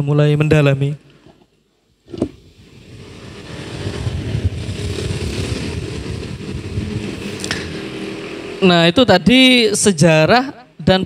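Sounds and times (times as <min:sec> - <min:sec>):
vehicle engine rumbling: 0:01.2 - 0:10.9.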